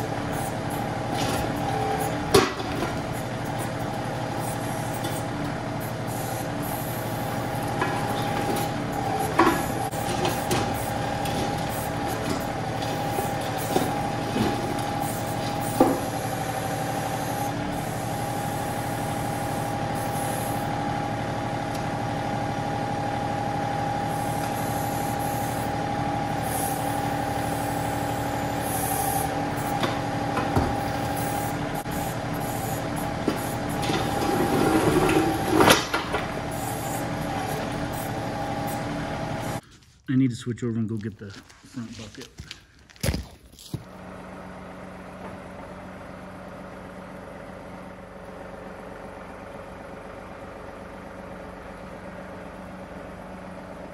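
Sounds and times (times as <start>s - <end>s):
tractor diesel engine running: 0.0s - 42.8s, 43.6s - 53.9s.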